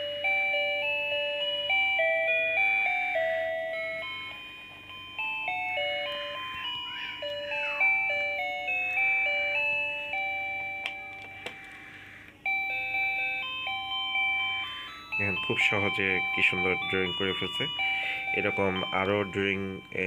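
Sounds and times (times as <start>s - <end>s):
music-box style electronic melody: 0.0s - 20.0s.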